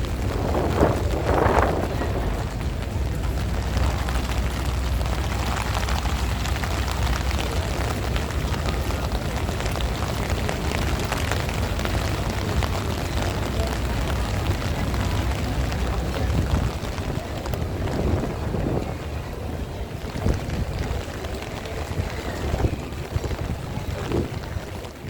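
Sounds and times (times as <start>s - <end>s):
heavy rain patter: 0.0s - 25.0s
wind buffeting microphone: 0.0s - 25.0s.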